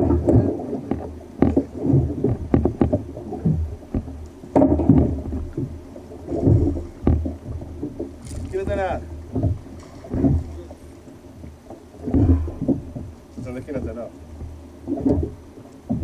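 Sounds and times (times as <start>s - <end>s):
small waves slapping a kayak hull: 0.0s - 16.0s
steady low rumble: 0.0s - 16.0s.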